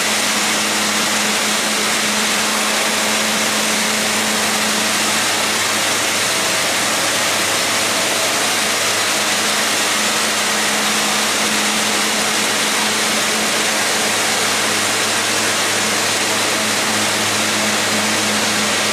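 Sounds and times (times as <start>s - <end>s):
concrete scarifier rushing noise: 0.0s - 18.9s
industrial vacuum hum: 0.0s - 18.9s.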